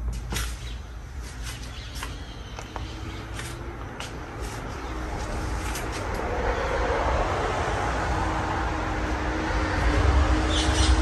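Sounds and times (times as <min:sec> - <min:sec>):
ceiling fan air rush: 0:00.0 - 0:11.0.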